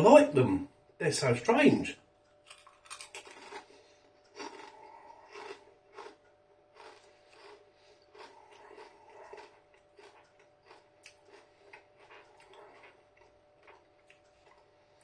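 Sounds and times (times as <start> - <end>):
person chewing crisps: 2.3 - 15.0.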